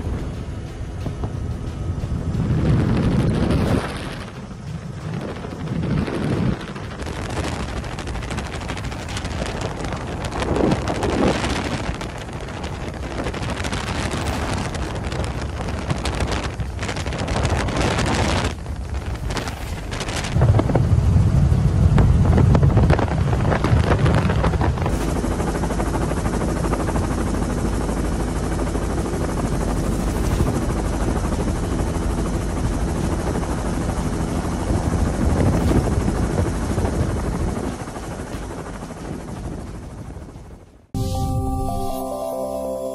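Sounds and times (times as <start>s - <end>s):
helicopter rotor and engine: 0.0s - 40.9s
wind rushing on microphone: 0.0s - 40.9s.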